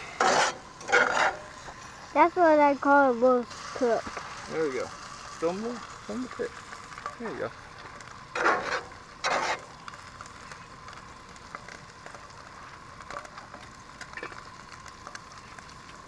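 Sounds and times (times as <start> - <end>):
fish sizzling in butter: 0.0 - 16.0.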